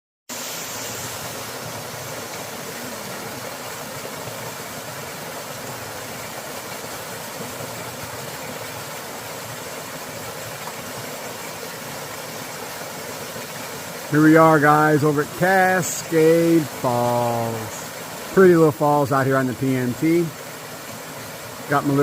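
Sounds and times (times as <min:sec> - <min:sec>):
small waterfall rushing: 0:00.3 - 0:22.0.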